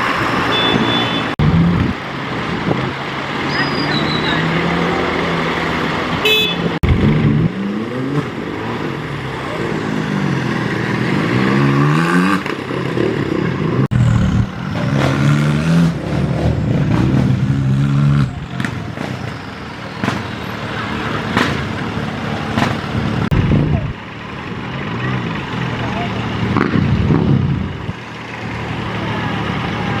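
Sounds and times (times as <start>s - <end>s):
tractor engine revving: 0.0s - 30.0s.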